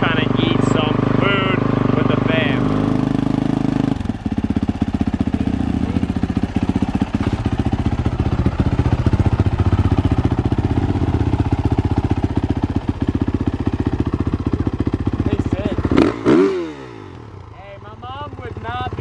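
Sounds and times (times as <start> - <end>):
dirt bike engine idling: 0.0 - 19.0.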